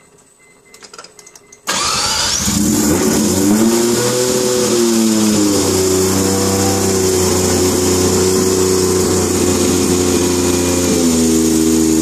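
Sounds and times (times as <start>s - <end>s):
rotary engine fast idle: 1.7s - 3.5s, 4.1s - 12.0s.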